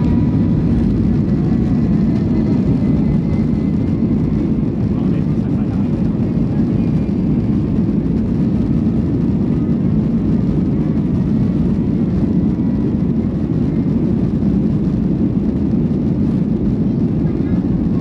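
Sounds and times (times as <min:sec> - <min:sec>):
airplane cabin takeoff rumble: 0:00.0 - 0:18.0.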